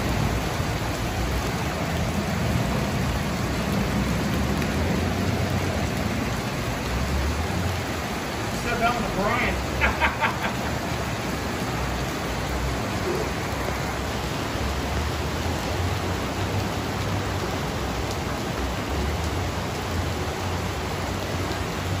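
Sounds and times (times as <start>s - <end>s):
falling rain: 0.0s - 22.0s
rushing floodwater: 0.0s - 22.0s.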